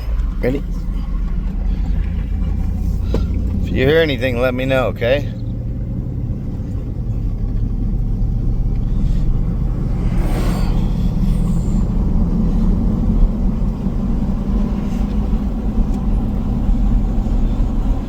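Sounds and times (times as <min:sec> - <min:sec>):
engine and road rumble in cab: 0:00.0 - 0:18.0.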